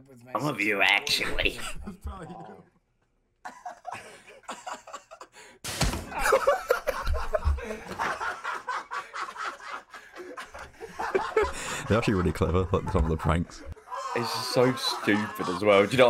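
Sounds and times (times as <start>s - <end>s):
men laughing hard: 1.6s - 2.6s, 3.4s - 5.5s, 6.1s - 16.0s.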